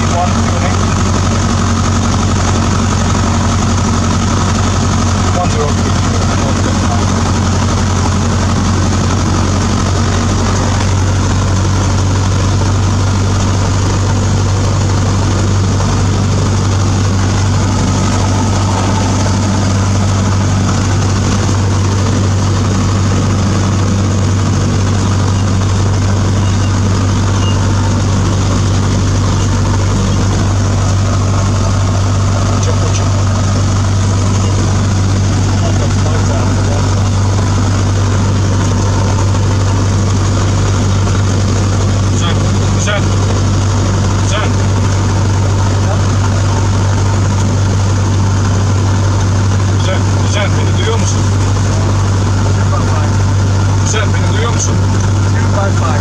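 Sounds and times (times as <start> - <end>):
aircraft engine and propeller hum: 0.0 - 56.0.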